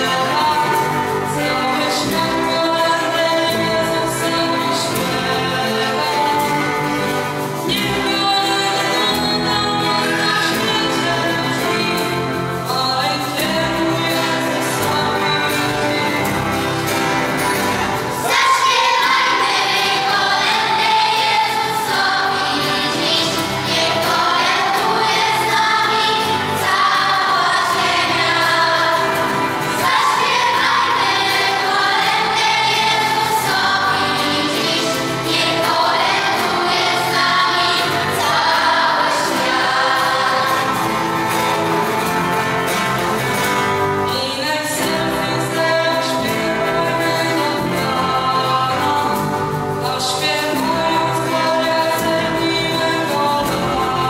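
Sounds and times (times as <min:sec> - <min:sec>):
children's choir singing a carol: 0:00.0 - 0:54.0.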